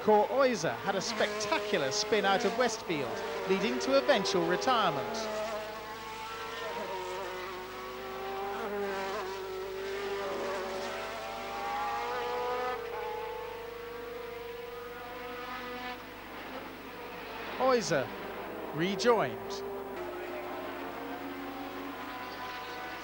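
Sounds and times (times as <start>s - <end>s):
race car engines at high revs: 0.0s - 23.0s.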